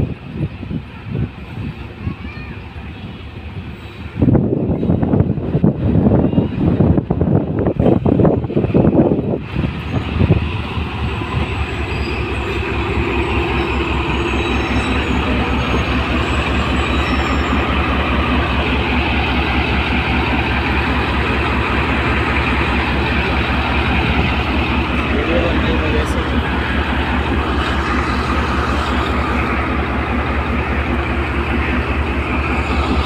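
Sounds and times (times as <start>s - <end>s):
diesel locomotive engine rumbling: 0.0s - 33.0s.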